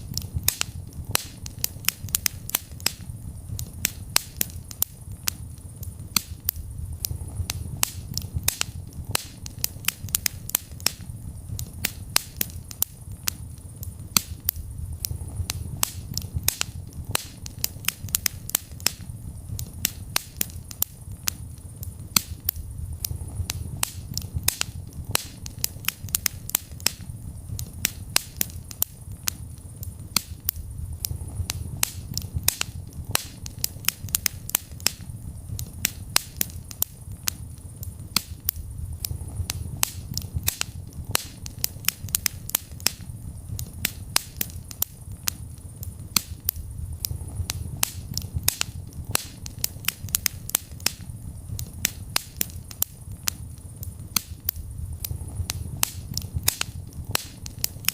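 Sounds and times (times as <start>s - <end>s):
low rumble of flames: 0.0s - 57.9s
wood fire crackling: 0.0s - 57.9s.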